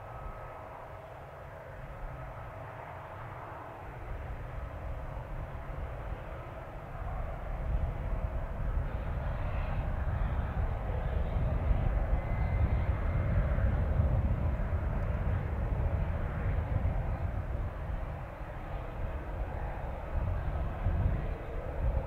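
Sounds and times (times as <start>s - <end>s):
faint high whine: 0.0s - 22.0s
jet aircraft rush and rumble: 0.0s - 22.0s.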